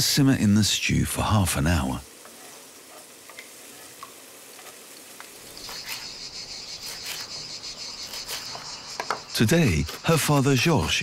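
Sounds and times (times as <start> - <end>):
insects chirring: 0.2 - 11.0.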